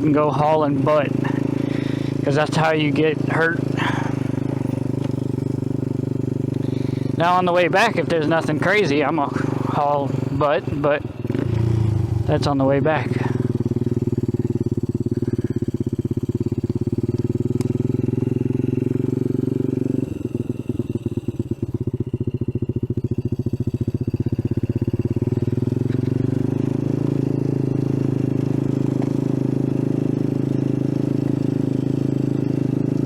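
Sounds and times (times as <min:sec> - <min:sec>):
mini bike engine running: 0:00.0 - 0:33.0.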